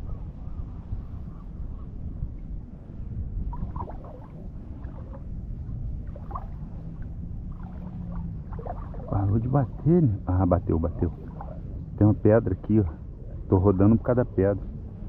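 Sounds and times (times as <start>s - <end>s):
water gurgling and sloshing: 0.0s - 15.0s
wind rumble on microphone: 0.0s - 15.0s.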